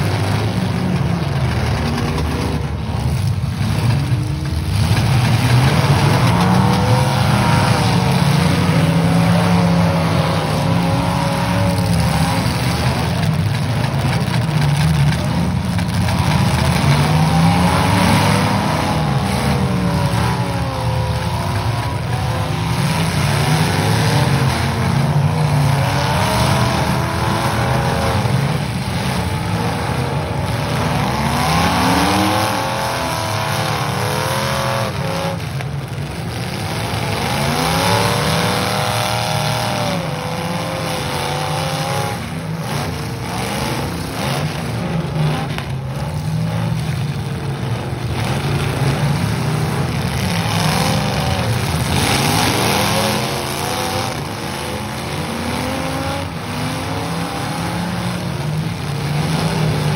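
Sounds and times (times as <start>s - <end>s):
car engines revving: 0.0s - 59.9s
cars crashing: 0.0s - 59.9s.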